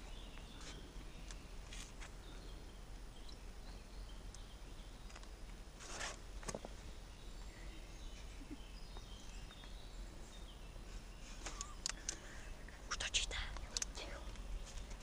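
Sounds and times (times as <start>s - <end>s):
bird chirps: 0.0s - 5.5s, 6.4s - 15.0s
low background noise: 0.0s - 15.0s.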